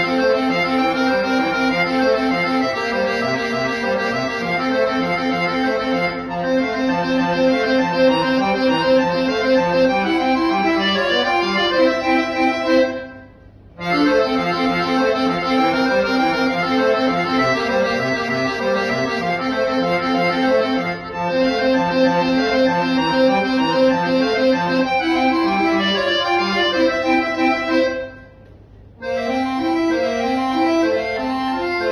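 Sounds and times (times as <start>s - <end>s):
button accordion melody: 0.0s - 31.9s.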